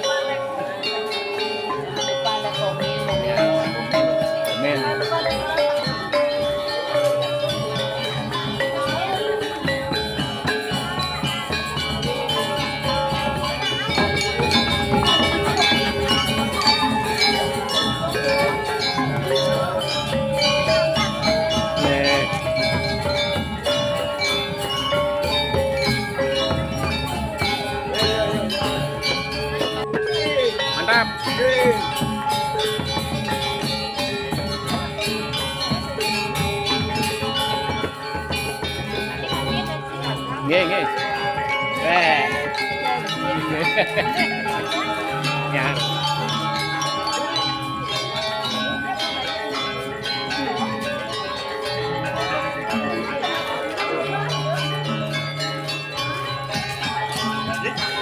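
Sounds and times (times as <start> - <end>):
gamelan music: 0.0 - 58.0.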